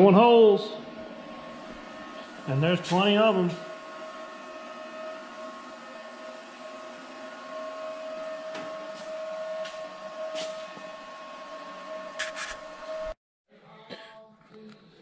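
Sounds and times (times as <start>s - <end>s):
steady machine whine: 0.0s - 13.2s.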